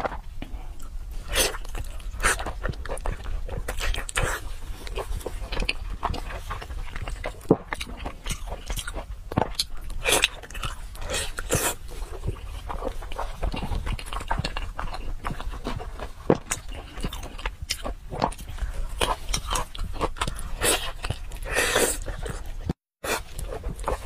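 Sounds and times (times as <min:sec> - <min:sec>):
wet chewing and biting: 0:00.0 - 0:24.0.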